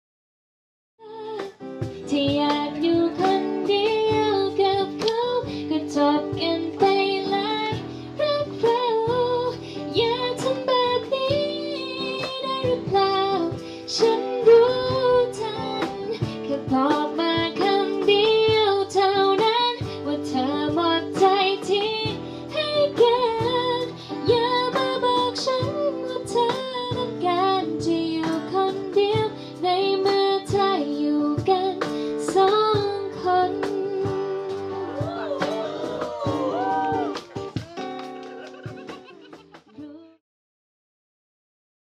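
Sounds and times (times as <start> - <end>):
woman singing a pop ballad: 1.0 - 37.1, 39.7 - 40.2
guitar: 1.0 - 40.2.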